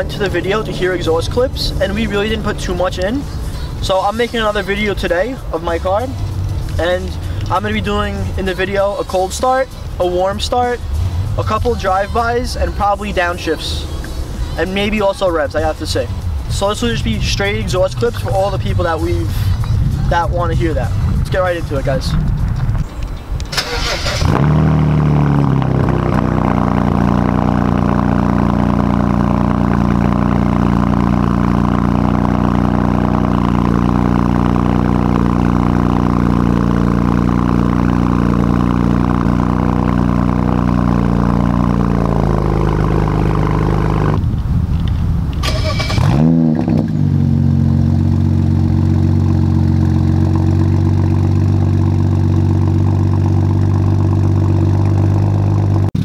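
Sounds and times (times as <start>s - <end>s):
engine cranking and revving: 0.0s - 22.4s, 23.4s - 44.2s, 45.3s - 56.0s
car engine idling: 0.0s - 56.0s.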